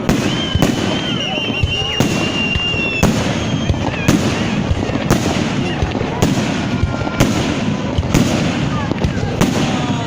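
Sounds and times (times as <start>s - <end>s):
crowd voices: 0.0s - 10.0s
fireworks bangs: 0.0s - 10.0s.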